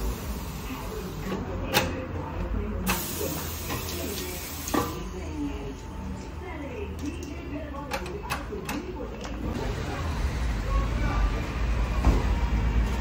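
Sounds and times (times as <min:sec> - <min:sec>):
workshop hiss and hum: 0:00.0 - 0:13.0.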